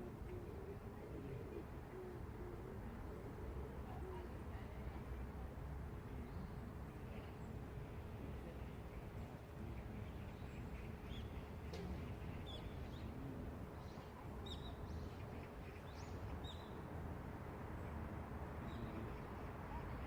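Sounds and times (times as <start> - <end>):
low city hum: 0.0 - 20.0.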